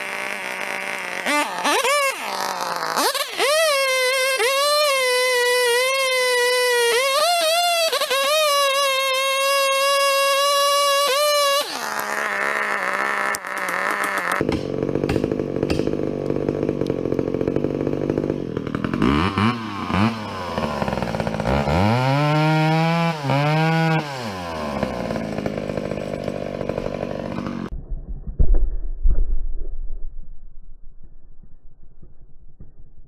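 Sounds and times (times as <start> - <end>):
chainsaw revving: 0.0 - 27.7.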